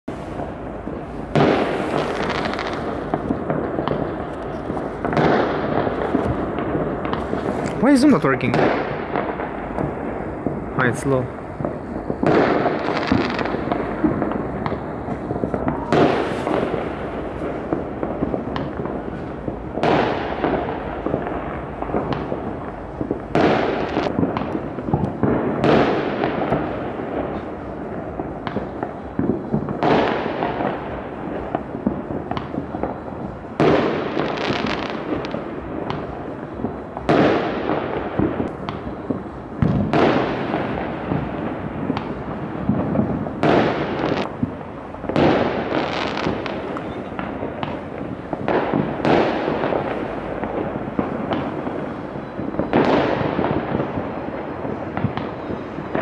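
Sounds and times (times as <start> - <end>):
distant fireworks bangs and crackling: 0.1 - 56.0
loud echoing firework bangs: 0.1 - 56.0.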